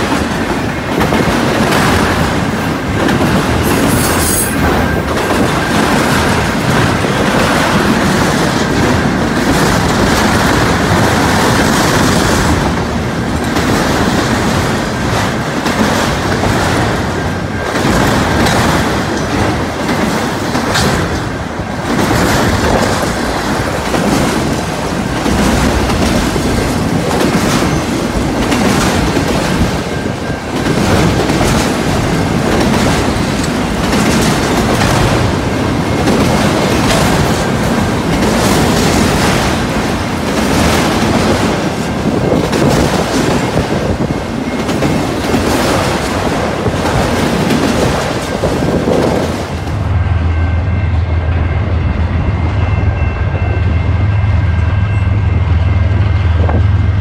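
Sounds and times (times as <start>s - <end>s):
freight train wheels clattering: 0.0s - 49.9s
train rumble: 0.0s - 57.0s.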